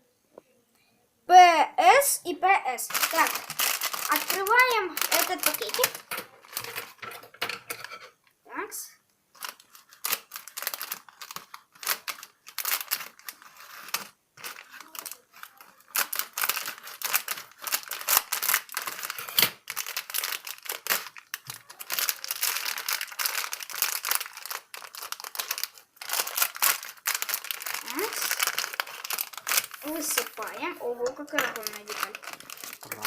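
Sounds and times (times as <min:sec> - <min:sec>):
plastic bag tearing: 0:02.9 - 0:07.2, 0:09.4 - 0:33.0
plastic bag crinkling: 0:02.9 - 0:07.9, 0:09.3 - 0:33.0.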